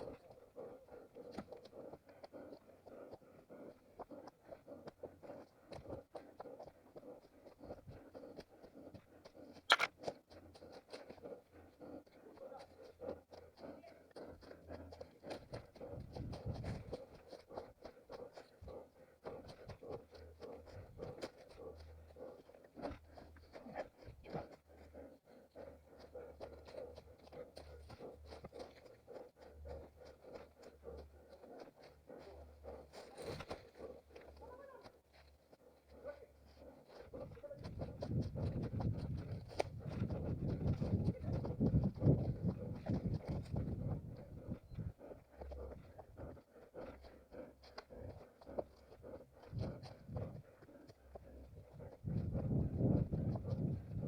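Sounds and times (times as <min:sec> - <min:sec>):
running footsteps on forest ground: 0:00.0 - 0:54.0.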